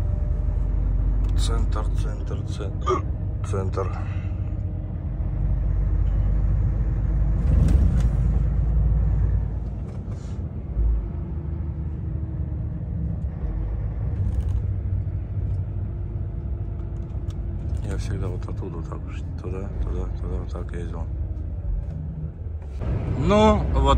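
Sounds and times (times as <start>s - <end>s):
truck engine rumble: 0.0s - 23.9s.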